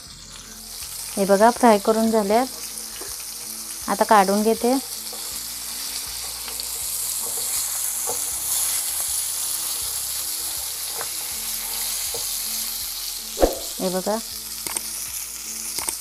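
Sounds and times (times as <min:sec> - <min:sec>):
fish sizzling in oil: 0:00.0 - 0:16.0.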